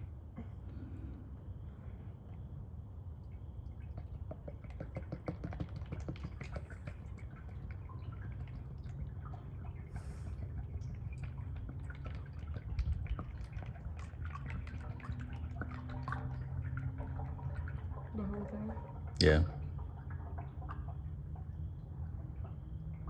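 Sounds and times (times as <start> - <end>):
oil pouring and splashing: 3.1 - 23.0.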